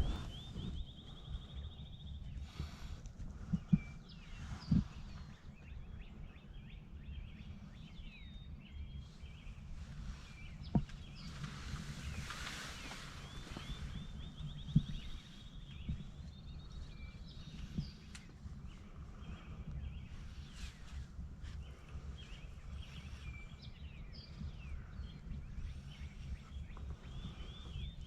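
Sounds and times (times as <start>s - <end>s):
songbirds singing and trilling: 0.0s - 28.0s
wind buffeting microphone: 0.0s - 28.0s.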